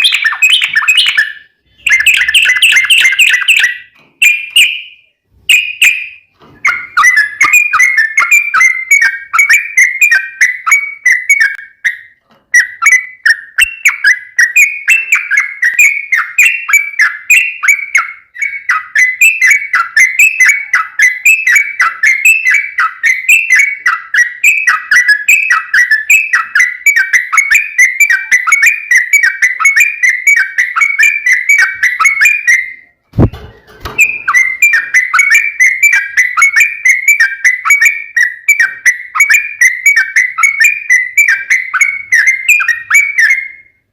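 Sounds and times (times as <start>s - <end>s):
bird whistled chattering song: 0.0s - 43.9s.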